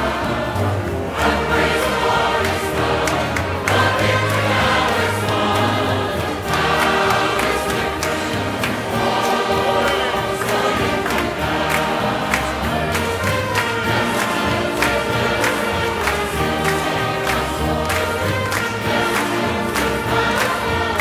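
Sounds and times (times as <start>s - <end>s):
choir singing gospel song: 0.0s - 21.0s
instrumental accompaniment: 0.0s - 21.0s.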